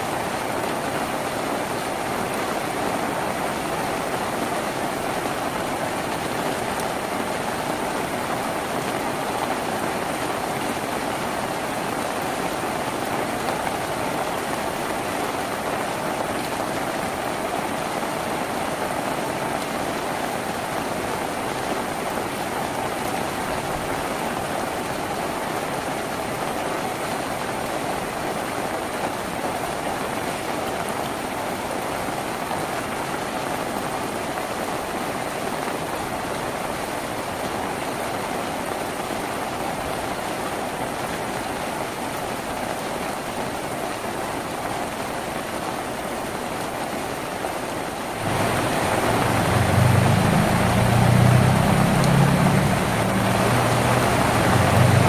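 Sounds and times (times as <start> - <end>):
heavy rain on a tin roof: 0.0 - 55.0.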